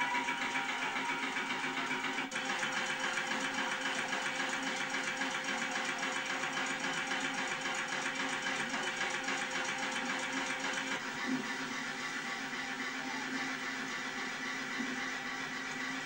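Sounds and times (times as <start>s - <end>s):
small motor clattering: 0.0s - 16.0s.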